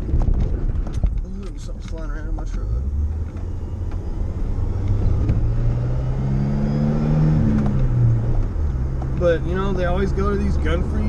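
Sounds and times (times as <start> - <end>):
truck engine rumble from inside cab: 0.0 - 11.0.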